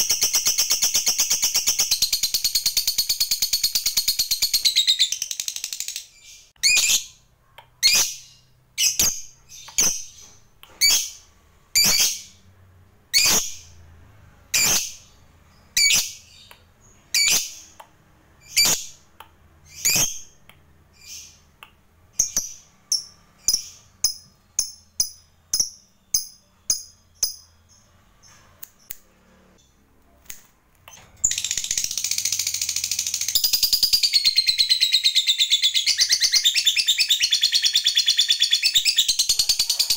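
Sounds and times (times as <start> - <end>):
lovebird high chirps: 0.0 - 12.4, 13.1 - 13.8, 14.5 - 29.0, 30.9 - 39.9.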